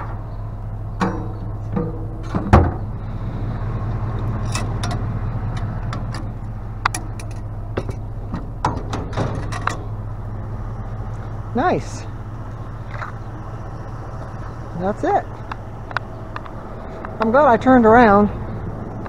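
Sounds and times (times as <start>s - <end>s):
pickup truck engine idling: 0.0s - 19.0s.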